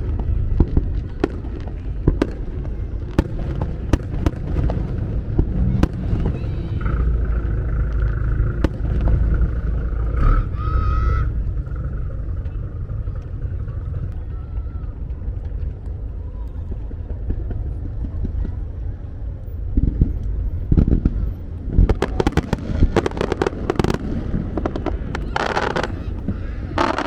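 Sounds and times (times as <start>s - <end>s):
fireworks crackling and popping: 0.0s - 27.0s
low rumble: 0.0s - 27.0s.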